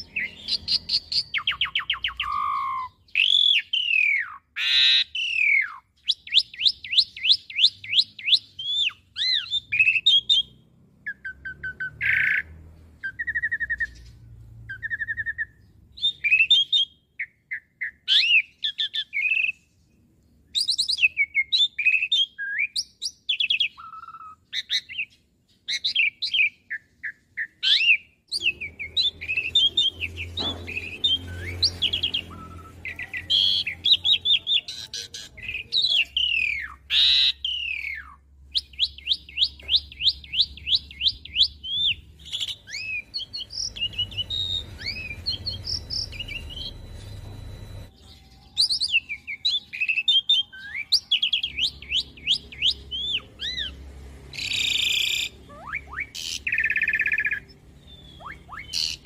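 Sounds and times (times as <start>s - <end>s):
starling singing: 0.0s - 19.6s, 20.6s - 59.0s.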